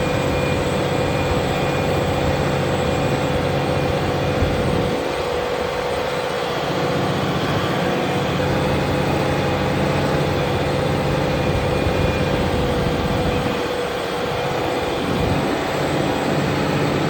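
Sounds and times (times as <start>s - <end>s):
constant whine: 0.0s - 17.0s
tractor diesel engine running: 0.0s - 17.0s.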